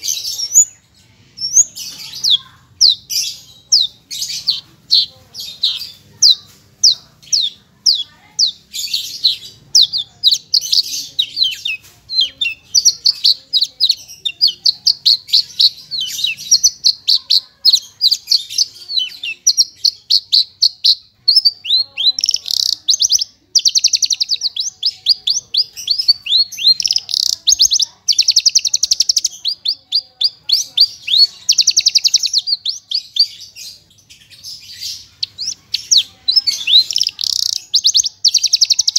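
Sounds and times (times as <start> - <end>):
lark singing with rattling trills: 1.4 - 38.9.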